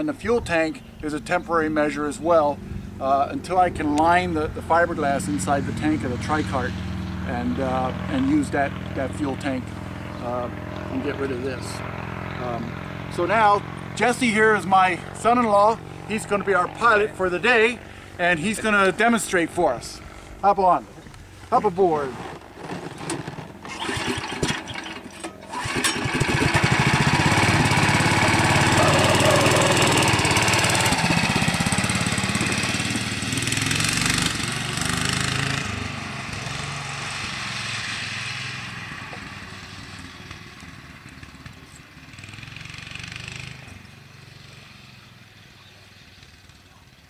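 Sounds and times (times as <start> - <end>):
four-stroke engine running: 2.5 - 20.4, 22.2 - 47.0.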